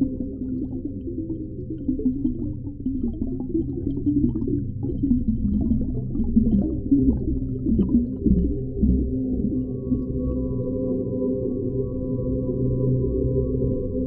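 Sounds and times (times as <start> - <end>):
muffled underwater rumble: 0.0 - 14.0
wavering low tones: 0.0 - 14.0.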